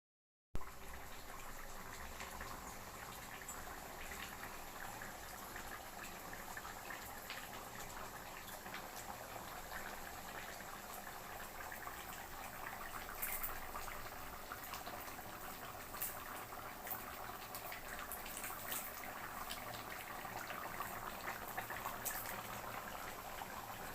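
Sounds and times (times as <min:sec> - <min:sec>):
stew bubbling in a pot: 0:00.6 - 0:23.9.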